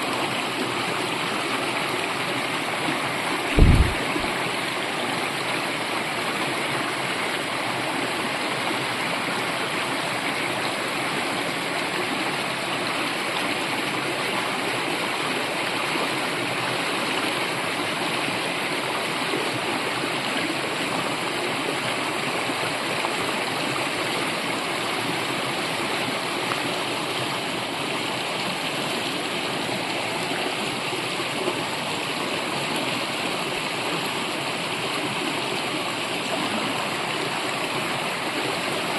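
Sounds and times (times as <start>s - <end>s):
brook running: 0.0s - 38.9s.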